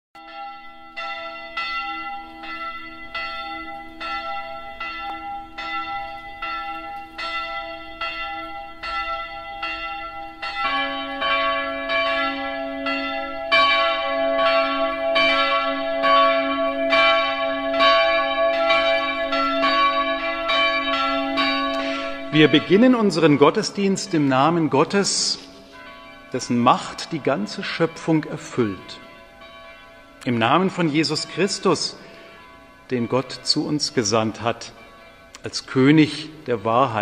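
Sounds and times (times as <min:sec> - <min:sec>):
church bells ringing: 0:00.2 - 0:37.0.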